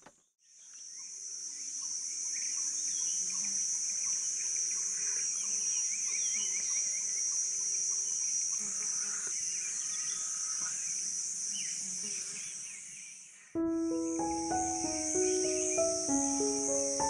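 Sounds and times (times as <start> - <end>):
insect chorus: 0.4 - 17.0.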